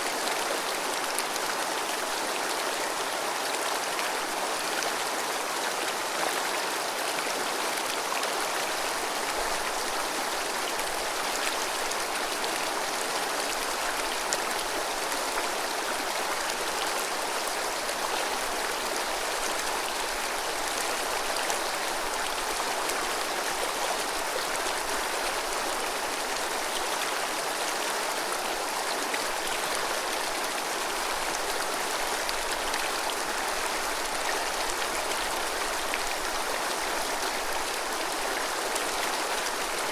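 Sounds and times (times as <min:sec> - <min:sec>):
mountain stream babbling: 0:00.0 - 0:39.9.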